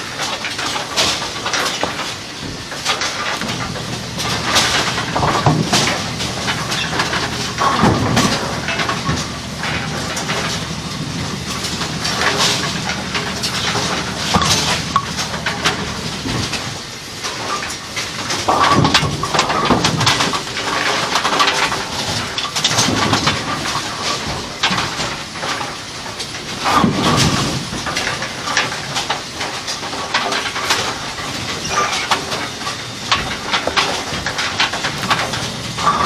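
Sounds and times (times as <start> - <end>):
knocks and clatter: 0.0 - 36.0
machinery rumbling: 0.0 - 36.0.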